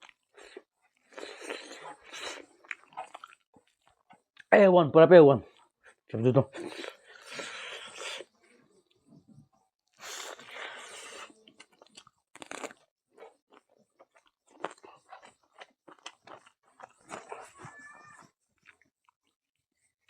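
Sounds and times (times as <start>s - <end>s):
person chewing and crunching food: 0.0s - 4.5s, 6.6s - 9.0s, 9.8s - 20.0s.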